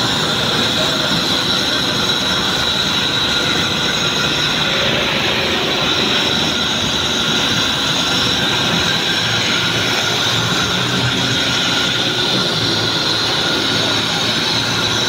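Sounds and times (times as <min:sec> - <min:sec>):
road traffic in underpass: 0:00.0 - 0:15.0.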